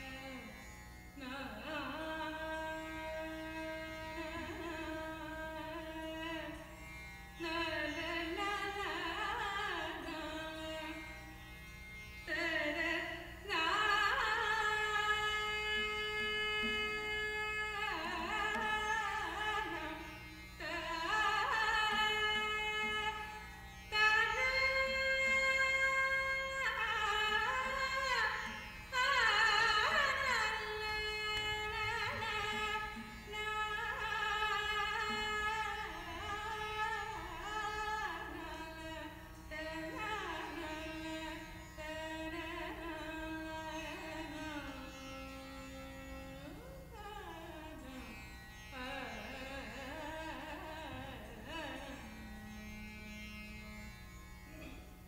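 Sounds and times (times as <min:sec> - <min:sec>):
woman singing: 0:01.2 - 0:06.6, 0:07.4 - 0:11.0, 0:12.2 - 0:20.0, 0:20.6 - 0:23.2, 0:23.9 - 0:44.9, 0:46.4 - 0:48.1, 0:48.7 - 0:52.2.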